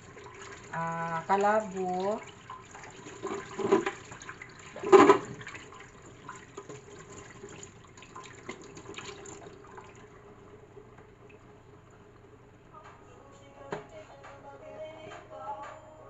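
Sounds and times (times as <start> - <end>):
water heating with crackling and fizzing: 0.0 - 14.4.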